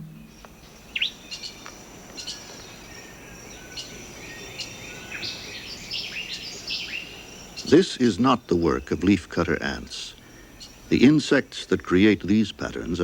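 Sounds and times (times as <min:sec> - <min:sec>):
birds chirping and whistling: 0:00.0 - 0:13.0
high insect hum: 0:00.0 - 0:13.0.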